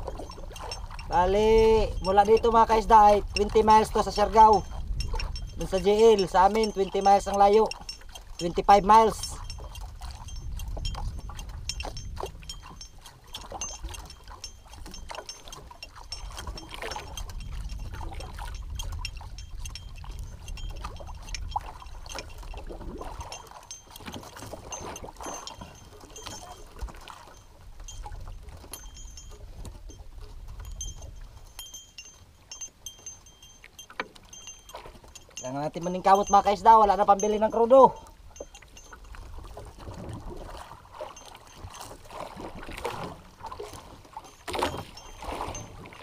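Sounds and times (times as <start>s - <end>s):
water splashing against boat hull: 0.0s - 46.0s
wind buffeting microphone: 0.0s - 46.0s
faint high ringing: 0.1s - 39.8s, 43.5s - 46.0s.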